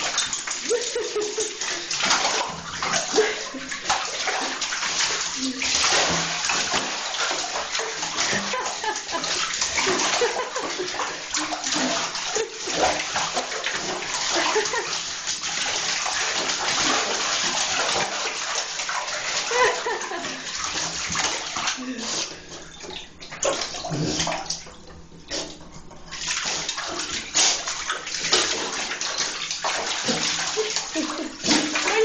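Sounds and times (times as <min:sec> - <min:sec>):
dog splashing in water: 0:00.0 - 0:32.0
water rushing in bathtub: 0:00.0 - 0:32.0.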